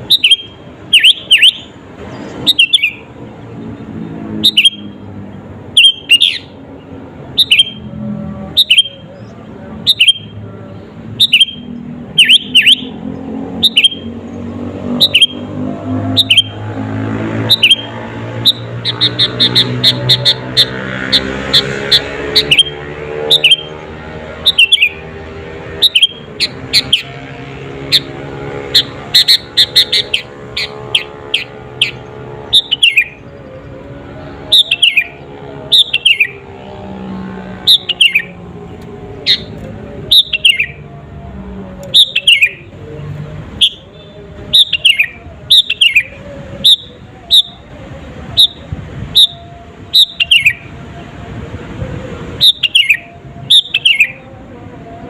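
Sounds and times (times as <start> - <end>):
bird singing descending notes: 0.0 - 40.9, 41.8 - 50.8, 52.4 - 54.3.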